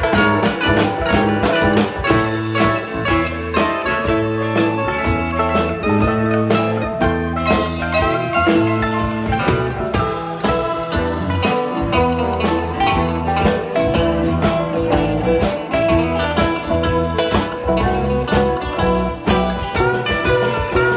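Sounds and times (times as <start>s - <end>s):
blues rock band playing: 0.0s - 20.9s
lead guitar: 0.0s - 20.9s.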